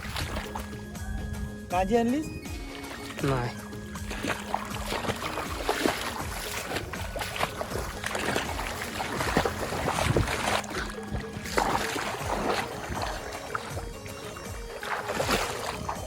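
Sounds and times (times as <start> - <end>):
water splashes and knocks: 0.0 - 1.4, 2.4 - 16.0
steady water wash: 0.0 - 16.0.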